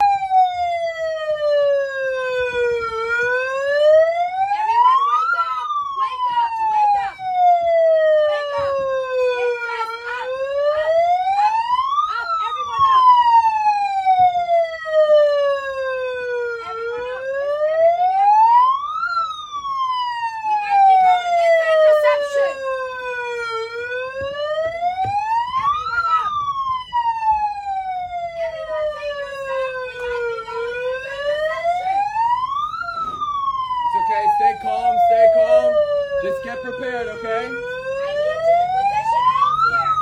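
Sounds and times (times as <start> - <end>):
siren wailing: 0.0 - 40.0.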